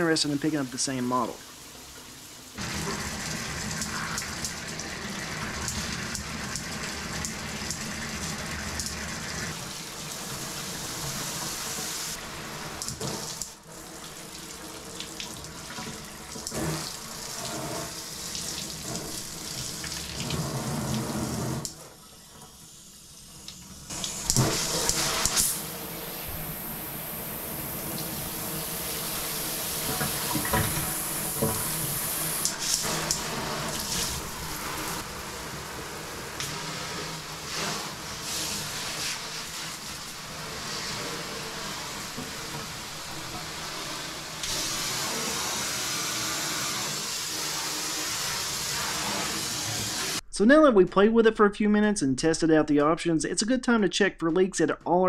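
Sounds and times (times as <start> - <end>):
shower spraying into bathtub: 0.0 - 50.2.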